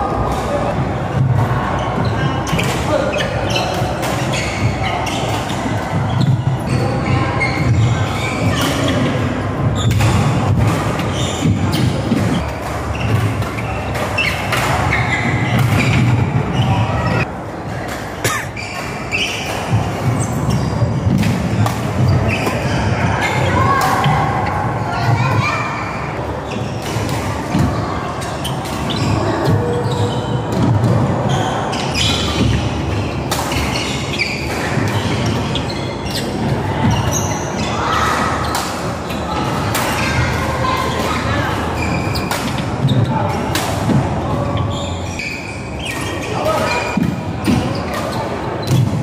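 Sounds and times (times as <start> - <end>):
shoes squeaking on court floor: 0.2 - 43.6, 44.2 - 49.0.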